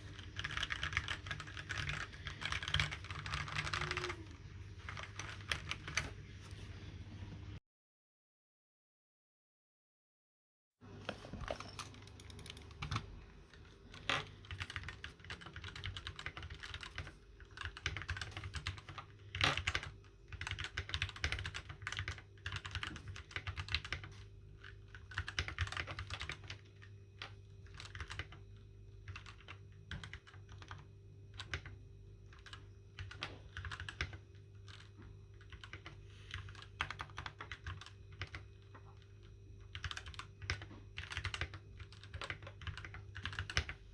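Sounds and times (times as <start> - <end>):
mechanical keyboard typing: 0.0 - 6.2, 11.1 - 43.8
faint steady hum: 0.0 - 7.6, 10.8 - 43.9.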